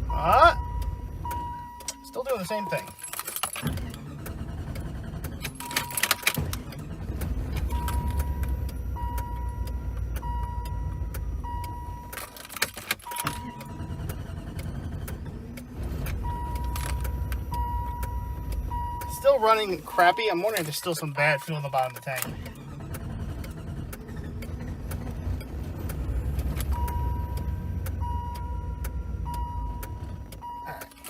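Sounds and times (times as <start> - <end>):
car engine running rough: 0.0 - 31.0
clunks: 0.0 - 31.0.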